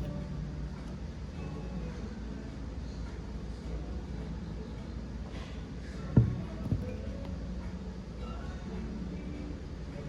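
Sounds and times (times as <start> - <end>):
faint music: 0.0 - 10.0.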